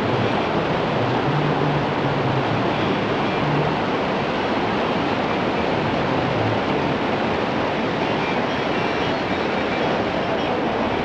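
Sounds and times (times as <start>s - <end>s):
churning water rushing: 0.0s - 11.0s.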